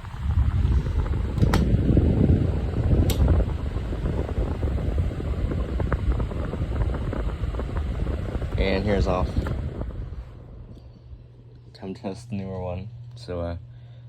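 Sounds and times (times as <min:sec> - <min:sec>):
table fan rushing air: 0:00.0 - 0:13.1.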